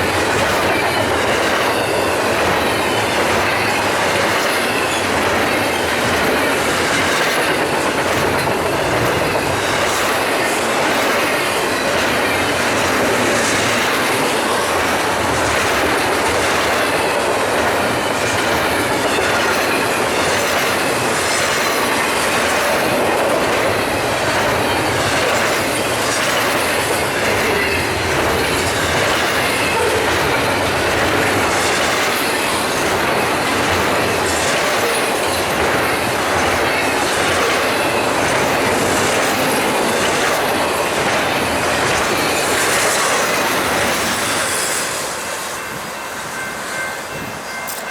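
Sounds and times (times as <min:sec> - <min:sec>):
freight train wheels rumbling: 0:00.0 - 0:47.9.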